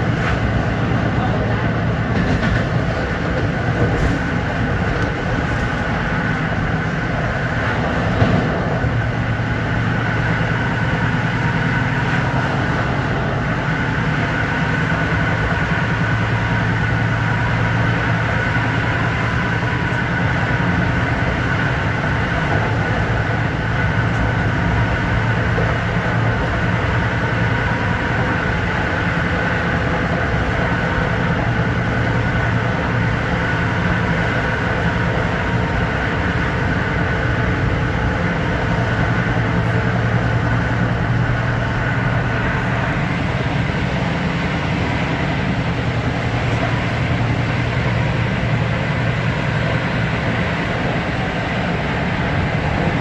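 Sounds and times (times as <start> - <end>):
constant hum: 0.0 - 53.0
train wheels rumbling on rail: 0.0 - 53.0.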